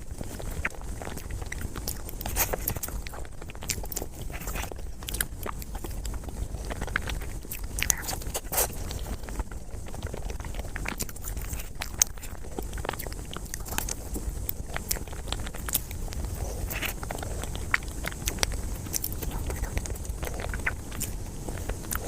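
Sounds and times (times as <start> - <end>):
person chewing: 0.0 - 22.0
wet mouth clicks and smacks: 0.3 - 22.0.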